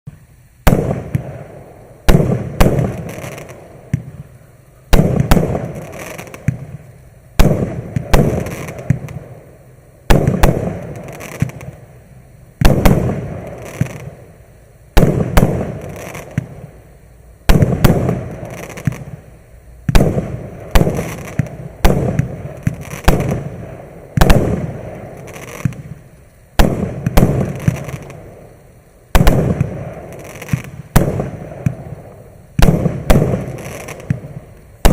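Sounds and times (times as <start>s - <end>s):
fireworks bangs with rumble: 0.6s - 11.9s, 12.6s - 14.2s, 15.0s - 16.7s, 17.4s - 34.9s.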